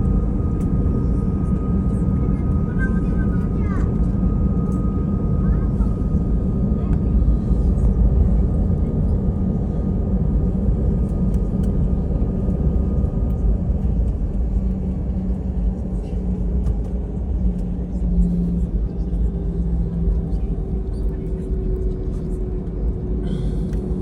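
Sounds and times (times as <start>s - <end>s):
jet engines rumbling in cabin: 0.0s - 24.0s
pitched hum: 0.0s - 24.0s.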